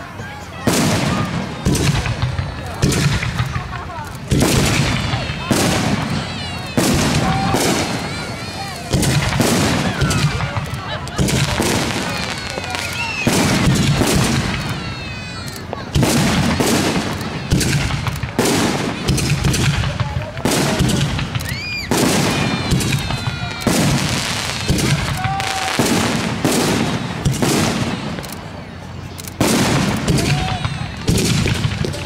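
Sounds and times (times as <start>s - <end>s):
fireworks shells bursting: 0.7s - 32.0s.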